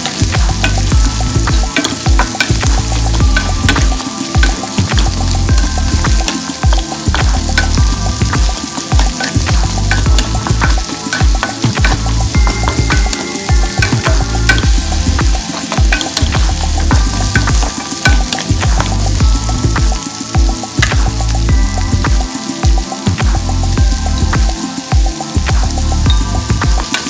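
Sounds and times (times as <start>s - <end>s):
background music: 0.0s - 27.0s
squash sizzling in a metal pan: 0.0s - 27.0s.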